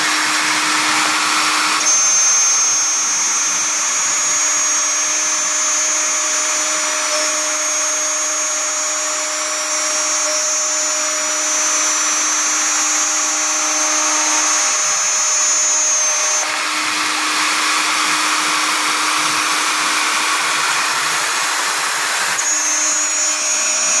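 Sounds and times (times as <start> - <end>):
cutting noise: 0.0 - 24.0
router spindle high whine: 0.0 - 24.0.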